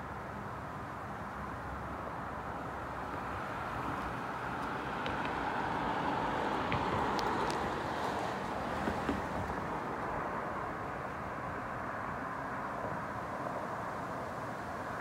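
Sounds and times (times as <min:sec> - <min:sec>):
distant road traffic hiss: 0:00.0 - 0:15.0.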